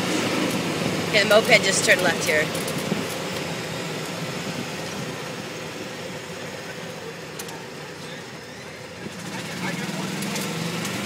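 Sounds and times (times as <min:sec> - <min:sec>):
golf cart motor humming: 0:00.0 - 0:11.0
road noise: 0:00.0 - 0:11.0.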